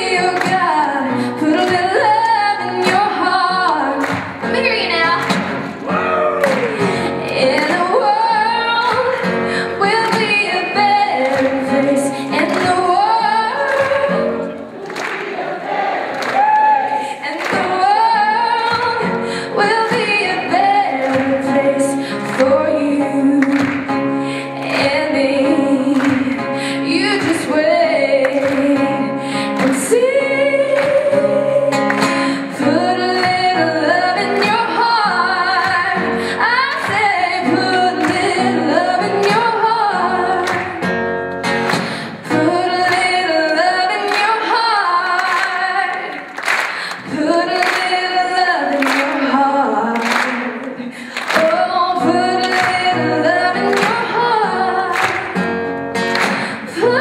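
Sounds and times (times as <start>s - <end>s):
woman singing: 0.0s - 5.7s, 6.7s - 14.5s, 16.9s - 40.9s, 42.0s - 55.4s, 56.1s - 57.0s
strummed guitar: 0.0s - 14.8s, 17.3s - 45.9s, 46.7s - 57.0s.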